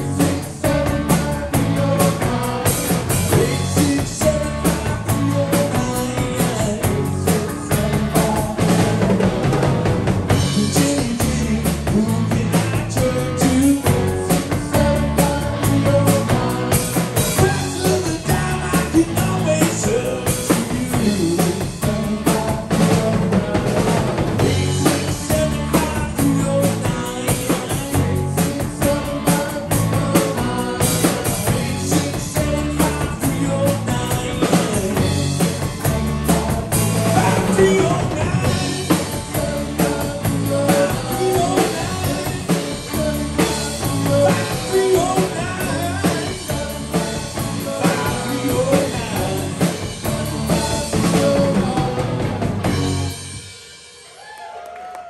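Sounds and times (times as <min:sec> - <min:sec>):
electric guitars: 0:00.0 - 0:53.6
bass guitar: 0:00.0 - 0:53.8
keyboard: 0:00.0 - 0:53.8
drum kit beat: 0:00.0 - 0:54.4.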